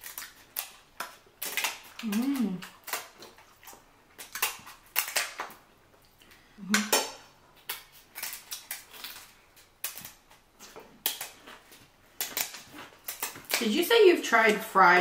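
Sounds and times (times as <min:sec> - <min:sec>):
shellfish shells crackling: 0:00.0 - 0:05.6, 0:06.3 - 0:13.8
chewing: 0:00.0 - 0:13.6.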